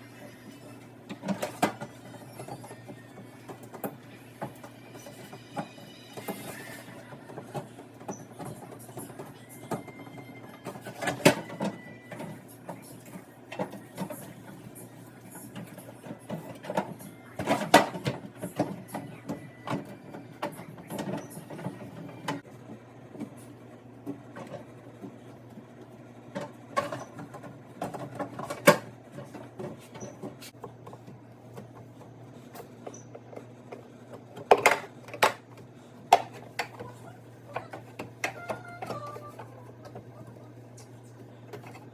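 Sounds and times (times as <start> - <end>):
household items clicking and clattering: 1.0 - 22.4, 24.0 - 41.9.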